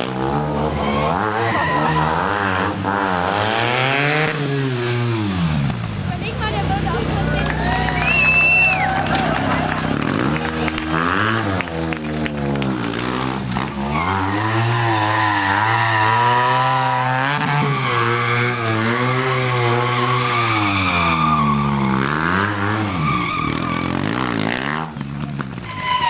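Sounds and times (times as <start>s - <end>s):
motorcycle engine revving: 0.0s - 25.8s.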